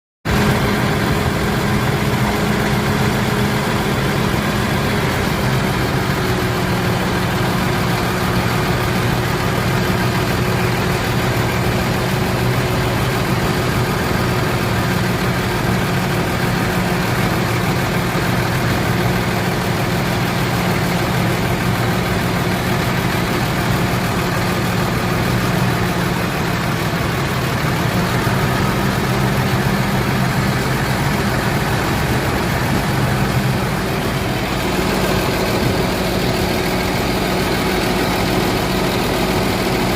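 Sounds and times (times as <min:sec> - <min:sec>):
vehicle engine idling: 0:00.2 - 0:39.9.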